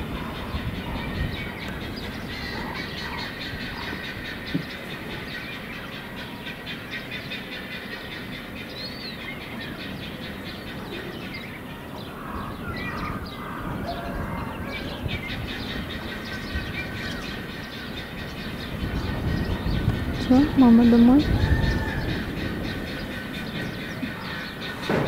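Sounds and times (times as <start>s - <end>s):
clattering outdoor background noise: 0.0s - 25.0s.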